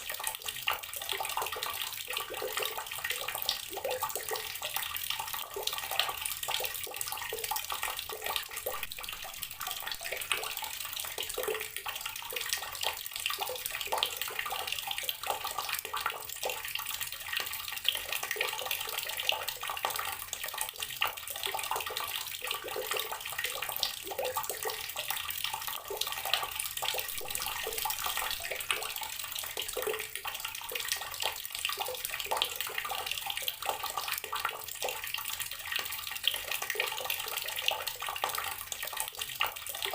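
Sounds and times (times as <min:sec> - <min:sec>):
water running from garden tap: 0:00.0 - 0:39.9.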